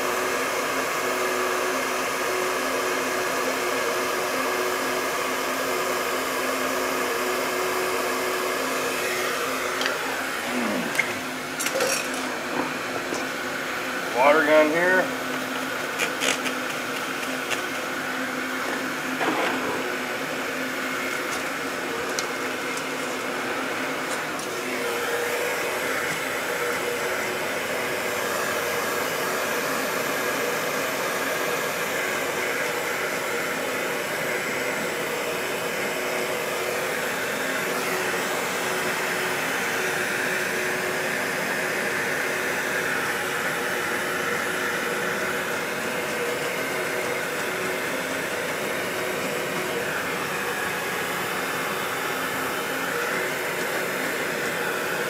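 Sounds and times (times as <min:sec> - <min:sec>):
heat gun whining: 0:00.0 - 0:55.0.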